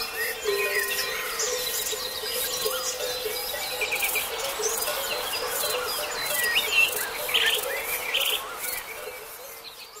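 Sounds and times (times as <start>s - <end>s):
crickets chirping: 0.0s - 10.0s
songbirds chirping and trilling: 0.0s - 10.0s.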